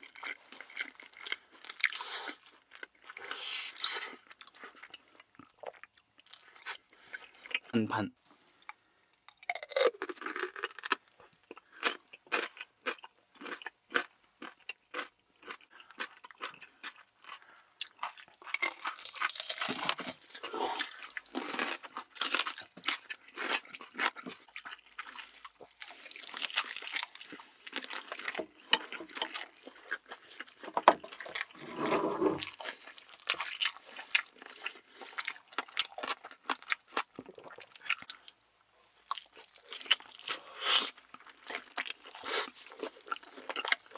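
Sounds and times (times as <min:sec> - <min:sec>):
crunching bites and chewing: 0:00.0 - 0:07.7, 0:09.3 - 0:38.4, 0:39.0 - 0:43.9.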